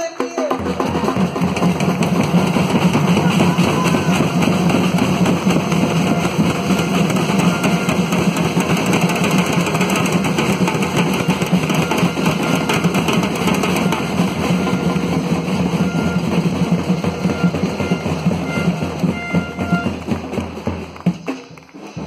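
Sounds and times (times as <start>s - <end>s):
bass drums and snare drums beating: 0.0s - 22.0s.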